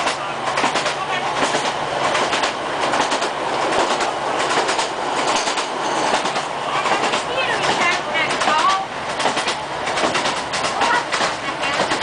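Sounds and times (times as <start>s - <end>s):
rush of wheels on rail: 0.0s - 12.0s
wheels clicking over rail joints: 0.0s - 12.0s.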